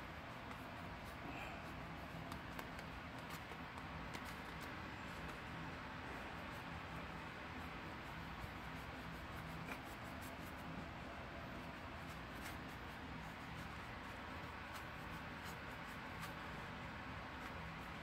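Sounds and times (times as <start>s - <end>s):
faint low hum: 0.0s - 18.0s
paintbrush brushing paint: 0.0s - 18.0s.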